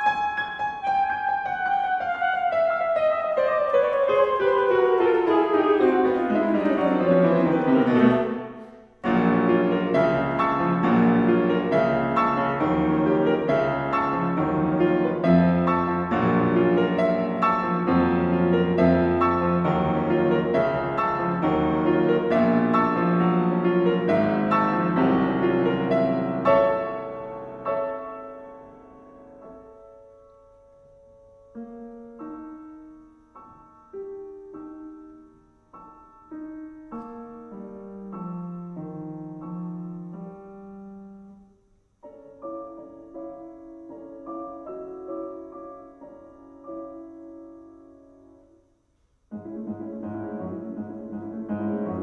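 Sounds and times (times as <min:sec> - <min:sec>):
piano playing repeated chords: 0:00.0 - 0:52.0.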